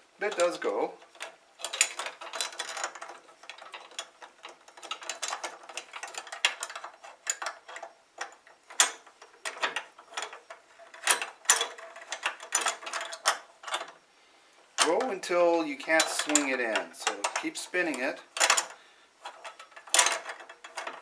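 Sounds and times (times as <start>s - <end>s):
screw turning clicks and scraping: 0.3s - 14.0s, 16.0s - 21.0s.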